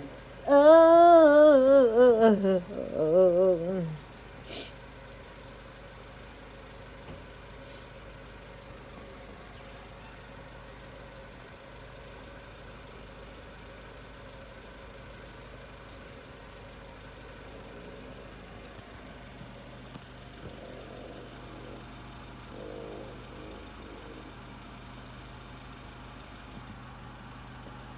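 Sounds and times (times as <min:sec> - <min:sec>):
engine hum: 0:00.0 - 0:27.9.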